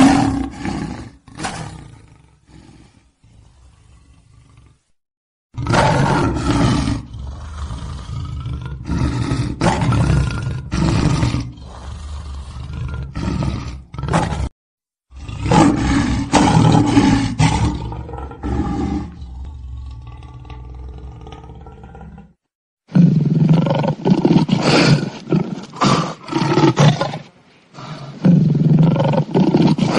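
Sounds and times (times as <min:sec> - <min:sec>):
lion and tiger roaring: 0:00.0 - 0:05.0, 0:05.6 - 0:29.9.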